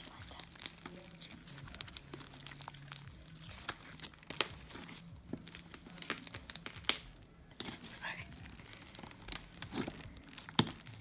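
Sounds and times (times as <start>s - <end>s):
slime squished by hand: 0.0s - 11.0s.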